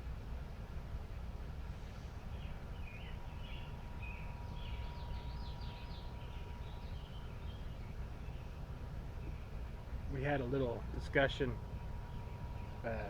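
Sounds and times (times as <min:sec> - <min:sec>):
low outdoor rumble: 0:00.0 - 0:13.0
birds chirping: 0:01.9 - 0:13.0.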